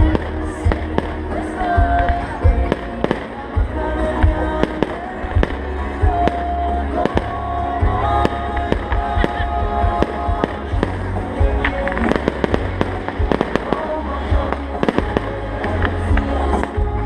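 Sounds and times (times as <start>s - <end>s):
fireworks bangs and crackles: 0.0s - 17.0s
music: 0.0s - 17.0s.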